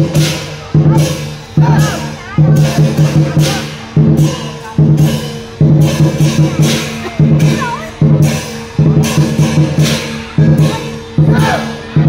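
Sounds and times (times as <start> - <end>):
cymbals crashing: 0.0 - 12.0
drum rolls: 0.0 - 12.0
gong: 0.0 - 12.0.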